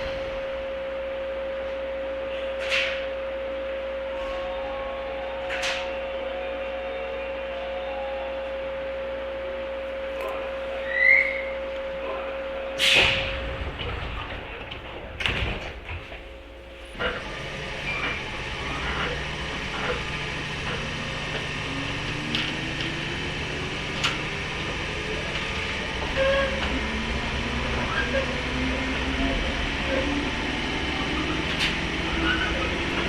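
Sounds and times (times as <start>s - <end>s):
train motor whine: 0.0s - 33.0s.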